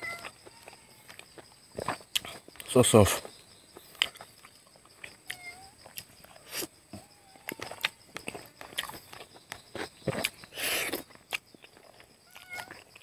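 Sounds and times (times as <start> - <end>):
chewing and lip-smacking: 0.2 - 2.7, 3.8 - 6.7, 7.4 - 13.0.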